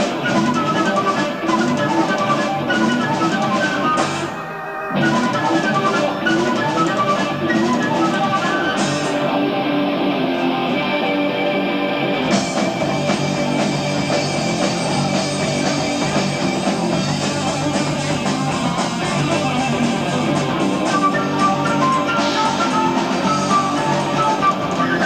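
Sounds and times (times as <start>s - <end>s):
electric guitar: 0.0s - 25.0s
live rock band playing: 0.0s - 25.0s.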